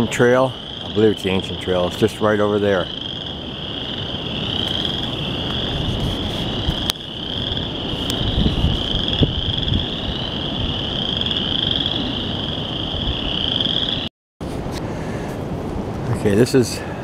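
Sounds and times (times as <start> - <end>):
frogs trilling: 0.0 - 14.1.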